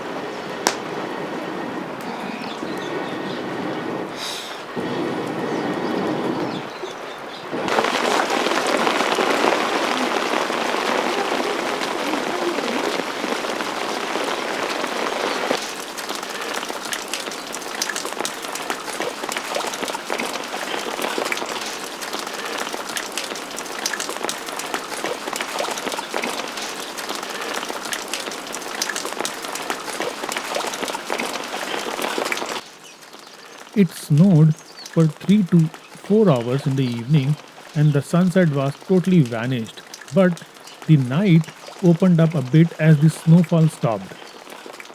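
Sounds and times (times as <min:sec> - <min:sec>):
rain drops hitting close: 0:00.0 - 0:44.9.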